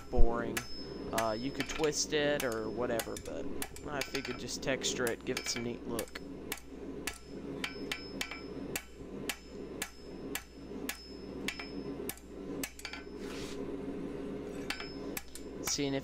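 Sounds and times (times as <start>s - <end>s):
hammer striking steel on anvil: 0.0s - 13.2s, 14.5s - 15.9s
low hum: 0.0s - 16.0s.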